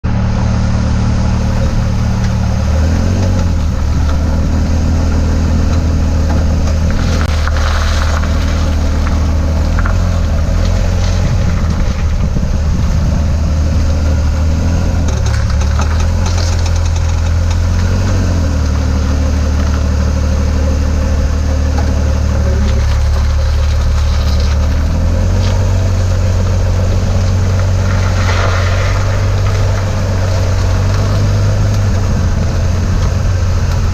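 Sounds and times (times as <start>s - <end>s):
car engine running: 0.0s - 33.9s
grinding from front end: 1.0s - 33.9s.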